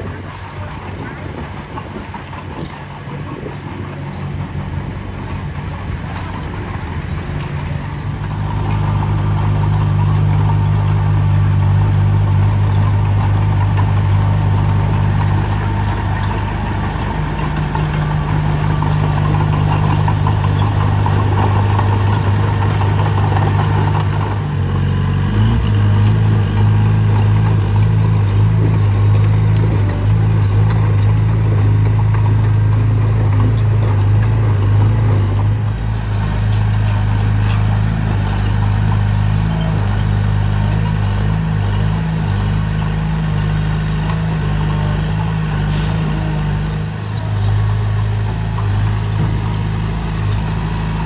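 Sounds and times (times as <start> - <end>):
light clattering: 0.0 - 51.0
machine engine low drone: 0.0 - 51.0.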